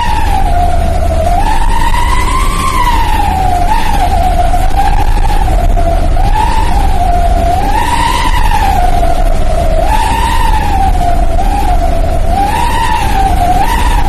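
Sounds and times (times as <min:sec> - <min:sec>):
low engine drone: 0:00.0 - 0:14.0
truck exhaust whistle howling: 0:00.0 - 0:14.0.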